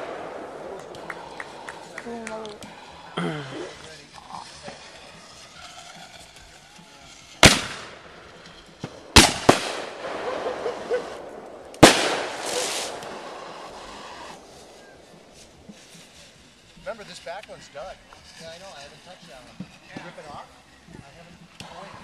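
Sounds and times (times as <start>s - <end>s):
fireworks bangs with echo: 0.0s - 17.6s.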